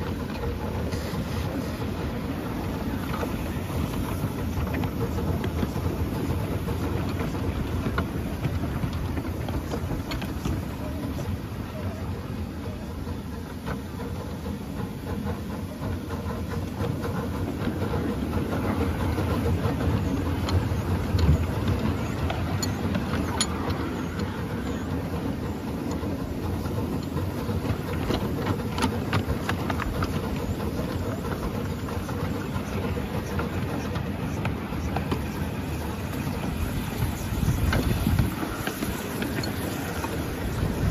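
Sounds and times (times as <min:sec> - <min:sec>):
steam locomotive rumbling: 0:00.0 - 0:40.9
wheels clicking over rail joints: 0:00.0 - 0:40.9.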